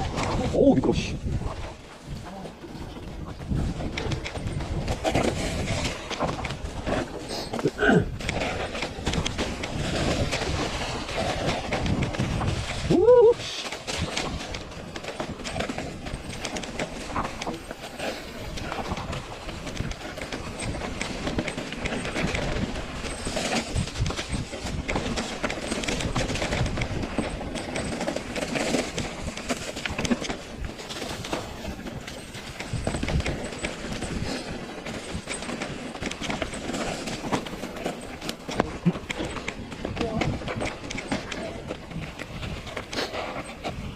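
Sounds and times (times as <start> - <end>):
bike rattling over rocks: 0.0 - 43.9.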